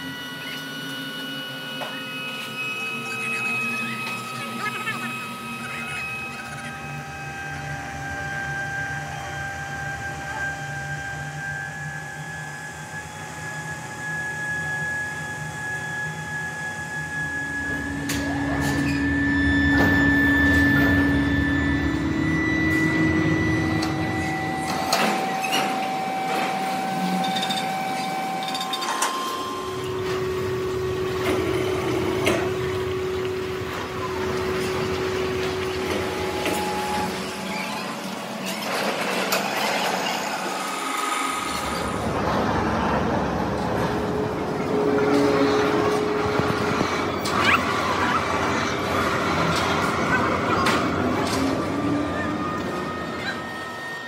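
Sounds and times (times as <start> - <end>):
machinery whining: 0.0 - 54.0.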